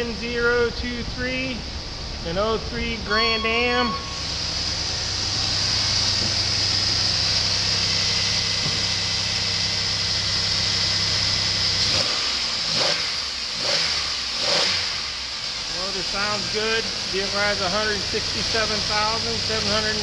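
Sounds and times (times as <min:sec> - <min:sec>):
car engine idling and revving: 0:00.0 - 0:03.0, 0:03.9 - 0:20.0.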